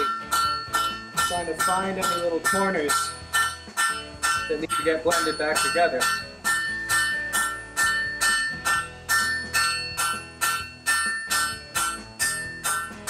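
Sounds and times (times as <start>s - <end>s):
hammer striking steel on anvil: 0.0s - 13.0s.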